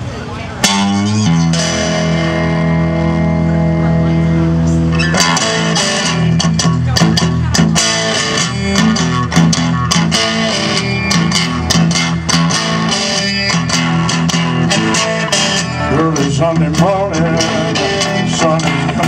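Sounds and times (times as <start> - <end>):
blues band playing: 0.0 - 19.0
electric guitar: 0.0 - 19.0.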